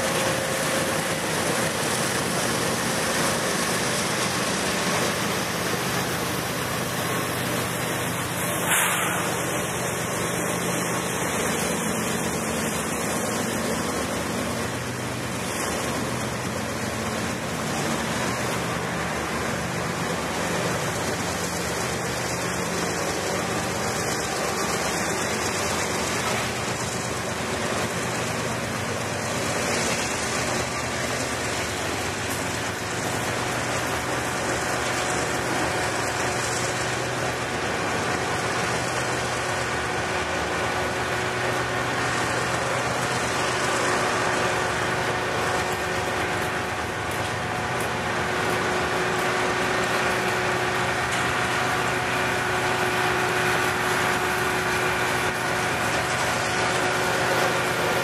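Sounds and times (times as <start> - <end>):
steel train wheels rolling on rail: 0.0 - 58.0.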